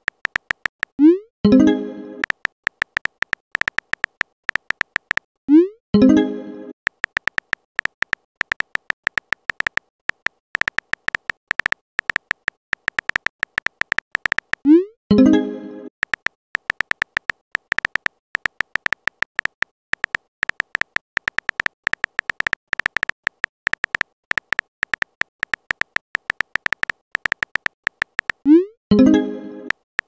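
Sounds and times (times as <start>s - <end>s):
keyboard typing clicks: 0.0s - 6.3s, 6.9s - 15.4s, 16.0s - 29.9s.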